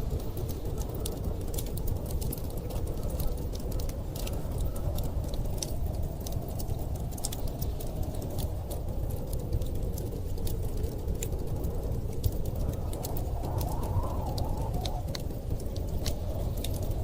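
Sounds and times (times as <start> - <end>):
storm wind rumble: 0.0 - 17.0
wood fire crackling: 0.0 - 17.0.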